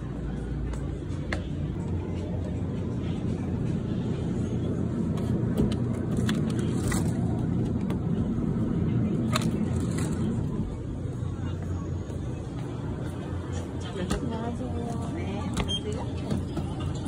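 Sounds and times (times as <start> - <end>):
steady low rumble: 0.0 - 15.5.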